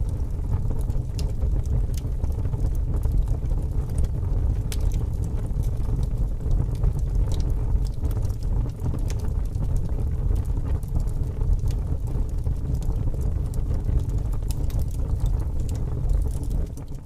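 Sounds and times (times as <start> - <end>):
fire crackles and pops: 0.0 - 17.0
fire rumbling: 0.0 - 17.0.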